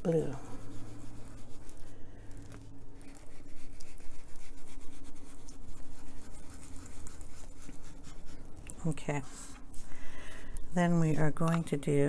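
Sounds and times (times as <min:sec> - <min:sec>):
ink applicator scrubbing on paper: 0:00.0 - 0:10.0.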